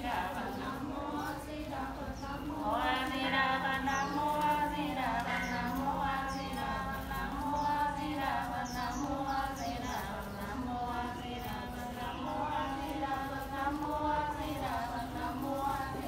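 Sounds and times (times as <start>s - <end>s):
voice chanting: 0.0s - 16.0s.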